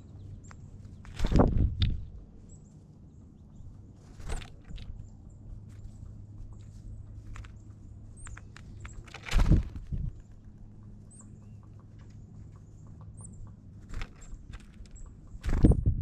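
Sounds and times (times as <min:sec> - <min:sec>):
birds pecking and tapping: 0:00.3 - 0:02.4, 0:03.2 - 0:16.0.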